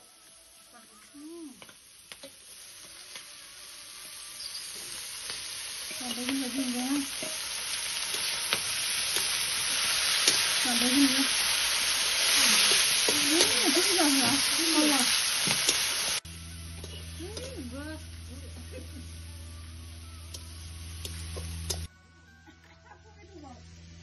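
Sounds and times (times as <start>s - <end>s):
food sizzling in a wok: 0.0s - 21.9s.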